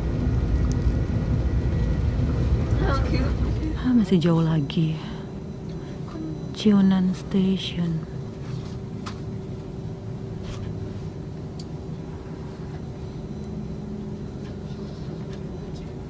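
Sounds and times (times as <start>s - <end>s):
train cabin running noise: 0.0s - 16.0s.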